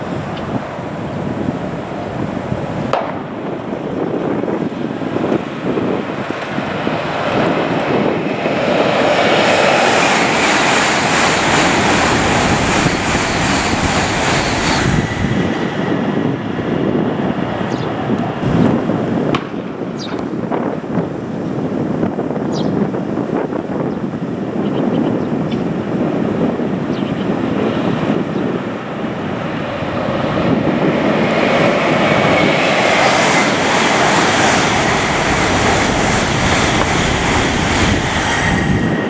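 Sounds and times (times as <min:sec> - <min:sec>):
broad rushing noise: 0:00.0 - 0:24.7, 0:25.3 - 0:39.0
wind buffeting microphone: 0:00.0 - 0:39.0.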